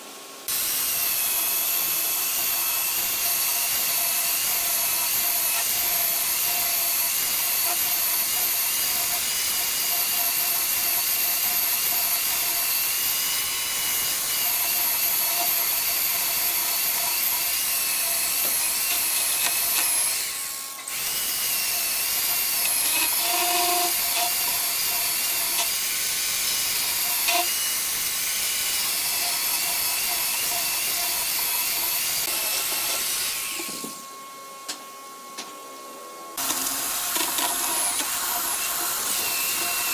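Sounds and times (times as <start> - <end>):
electric chainsaw cutting wood: 0.5 - 34.8, 36.4 - 39.9.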